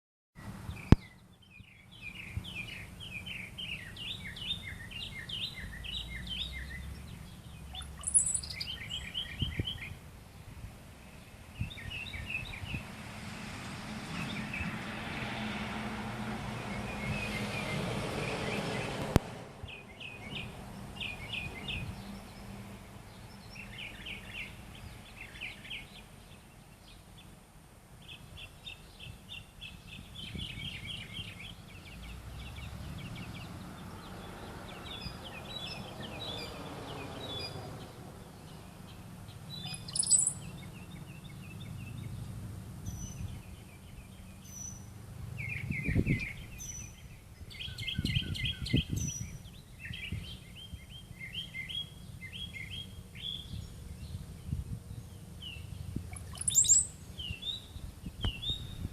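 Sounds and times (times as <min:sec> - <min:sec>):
bird chirping: 0:00.7 - 0:10.4, 0:11.1 - 0:12.8, 0:19.6 - 0:27.4, 0:28.0 - 0:58.9.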